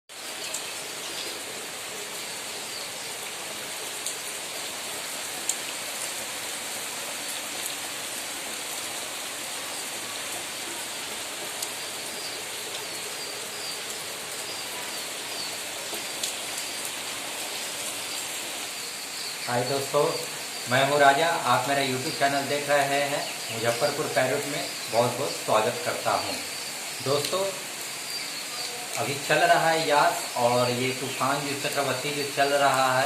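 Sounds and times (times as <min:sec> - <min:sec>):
steady rain: 0:00.1 - 0:33.0.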